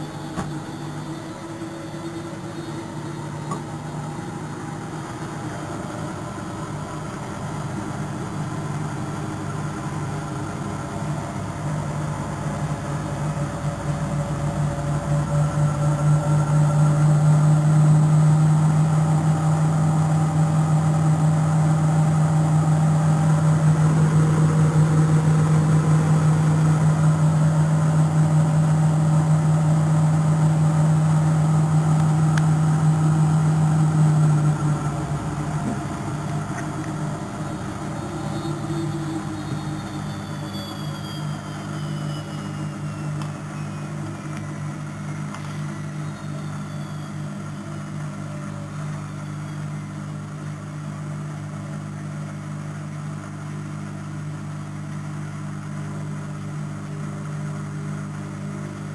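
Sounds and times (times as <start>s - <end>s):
washing machine spinning: 0.0s - 58.9s.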